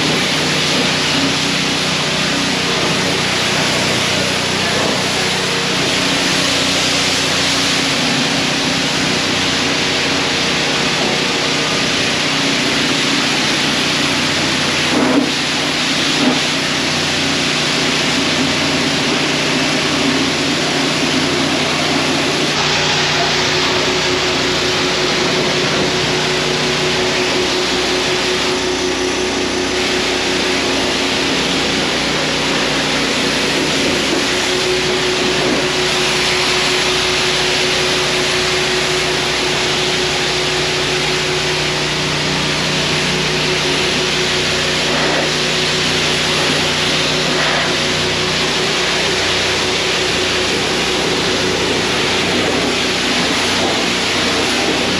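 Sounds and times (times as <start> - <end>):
pressure washer spraying water: 0.0 - 54.9
steady hum: 0.0 - 54.9.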